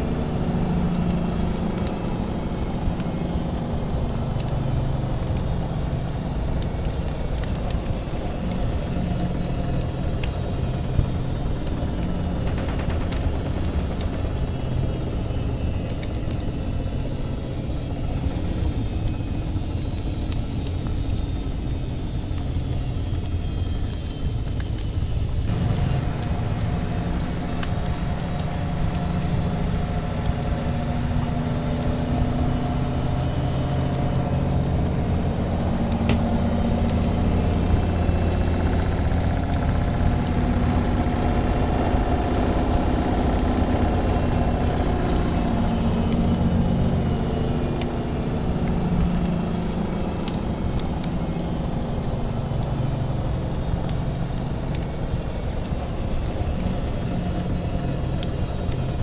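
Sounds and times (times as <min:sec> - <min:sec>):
washing machine humming: 0:00.0 - 0:59.0
wood fire crackles: 0:00.0 - 0:59.0.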